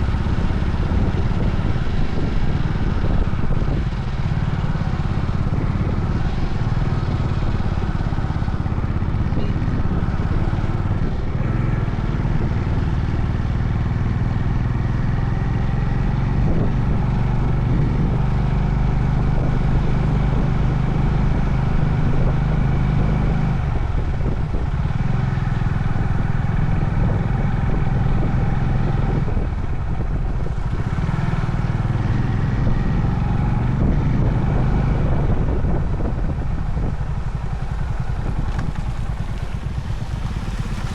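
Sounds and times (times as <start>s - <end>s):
motorcycle engine running: 0.0s - 40.9s
road noise: 0.0s - 40.9s.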